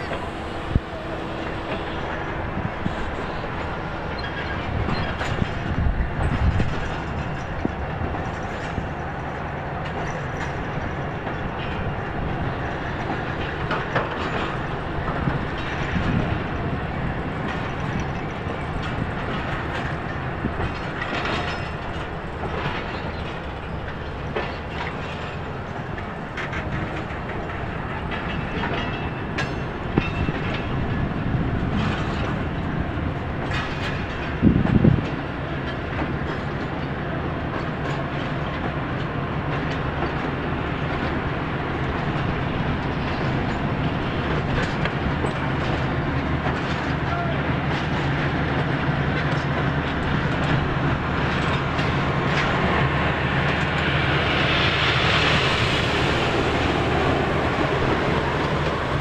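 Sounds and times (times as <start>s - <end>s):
train wheels rolling on rails: 0.0s - 59.0s
wheels clicking on track: 2.8s - 59.0s.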